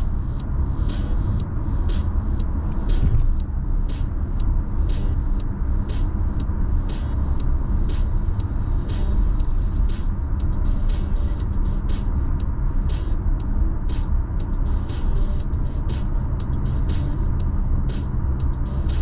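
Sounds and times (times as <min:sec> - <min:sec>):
background music with crisp beat: 0:00.0 - 0:19.0
road and tyre rumble: 0:00.0 - 0:19.0.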